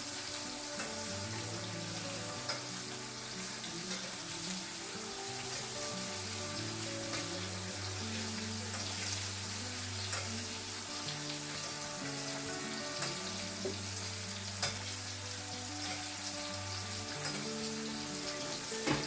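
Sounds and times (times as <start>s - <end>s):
background music with held chords: 0.0s - 19.0s
fish sizzling in a frying pan: 0.0s - 19.0s.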